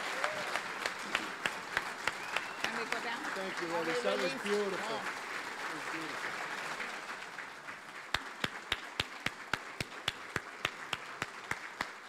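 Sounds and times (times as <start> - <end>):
audience applause: 0.0 - 12.0
sharp hand claps: 0.0 - 12.0.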